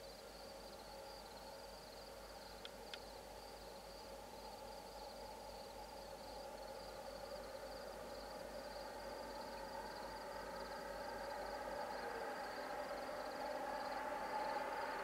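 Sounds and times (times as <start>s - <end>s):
distant locomotive engine hum: 0.0s - 15.0s
insects chirping: 0.0s - 15.0s.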